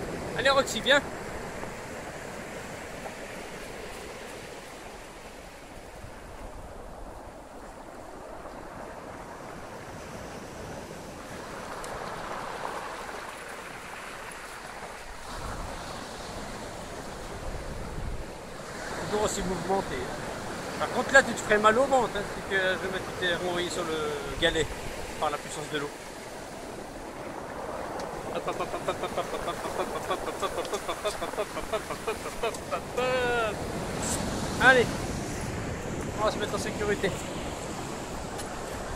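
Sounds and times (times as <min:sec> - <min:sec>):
surf breaking on pebble shore: 0:00.0 - 0:38.9.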